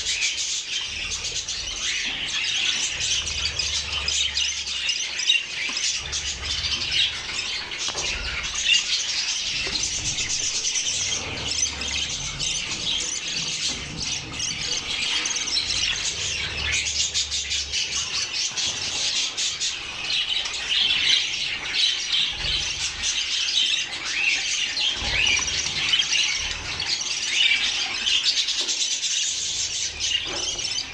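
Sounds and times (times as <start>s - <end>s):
budgerigars chirping and squawking: 0.0s - 30.9s.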